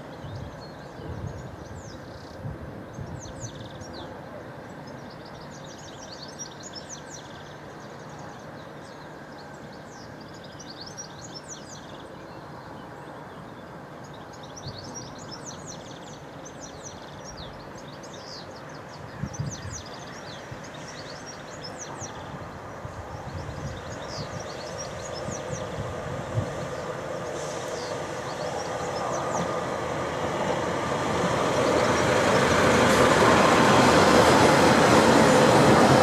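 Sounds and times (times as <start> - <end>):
diesel railbus drone: 0.0 - 36.0
birds chirping and trilling: 5.0 - 35.9.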